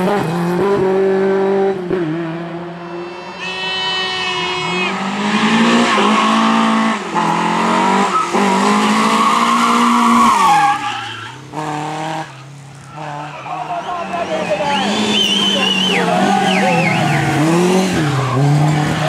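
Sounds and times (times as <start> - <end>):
rally car engine revving: 0.0 - 19.0
tyres skidding: 1.8 - 19.0.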